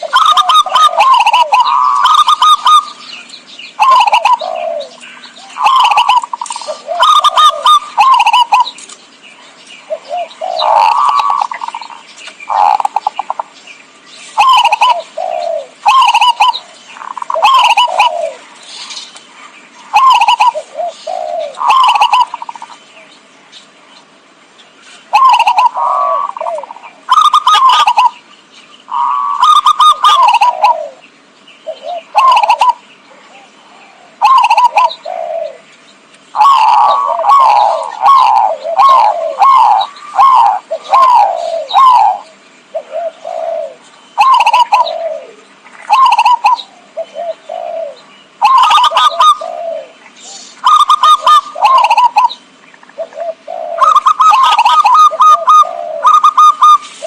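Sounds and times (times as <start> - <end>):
dove cooing: 0.0 - 9.0, 9.8 - 13.6, 14.3 - 23.1, 25.0 - 28.3, 28.9 - 35.7, 36.3 - 57.0.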